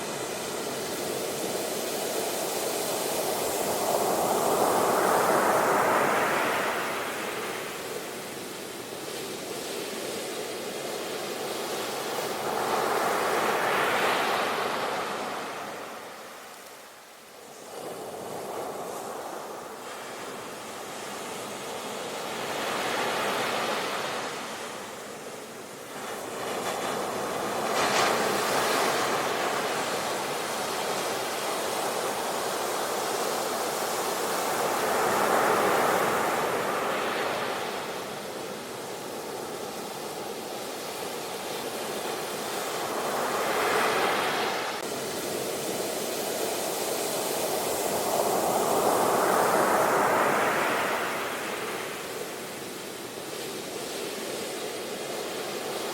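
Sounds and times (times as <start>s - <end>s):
ocean waves breaking on shore: 0.0s - 55.9s.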